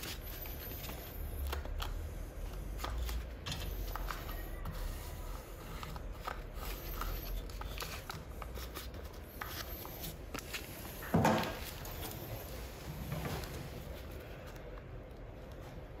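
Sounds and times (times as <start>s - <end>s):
tape crinkling and rubbing: 0.0s - 15.6s.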